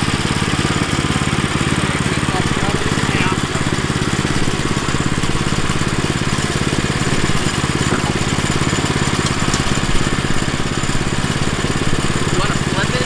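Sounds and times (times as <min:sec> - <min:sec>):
gas engine idling: 0:00.0 - 0:13.0.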